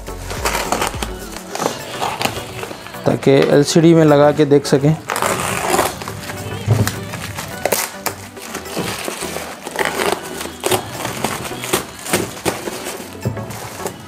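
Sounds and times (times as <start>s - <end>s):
packing tape tearing: 0.0s - 4.0s, 4.9s - 14.0s
background music: 0.0s - 14.0s
plastic wrapping crinkling: 0.0s - 14.0s.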